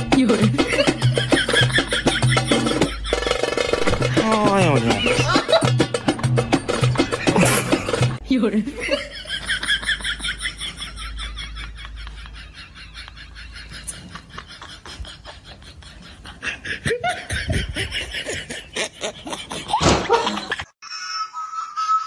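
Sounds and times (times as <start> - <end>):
person laughing: 0.5 - 5.9, 6.7 - 22.0.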